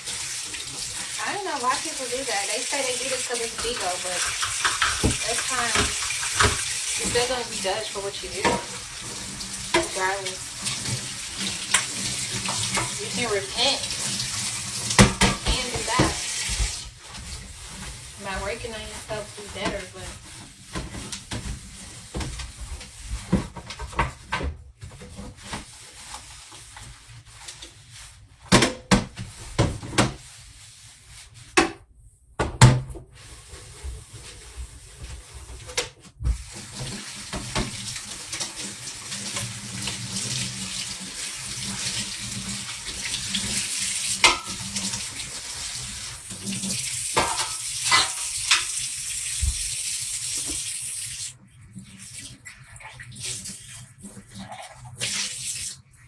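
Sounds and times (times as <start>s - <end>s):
tap water running into sink: 0.0s - 27.6s, 33.3s - 55.9s.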